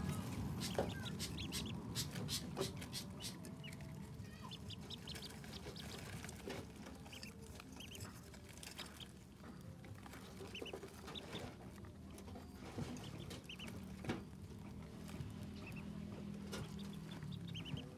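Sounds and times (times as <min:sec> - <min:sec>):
bills pecking at food dishes: 0:00.0 - 0:17.9
ducklings peeping: 0:00.0 - 0:17.9.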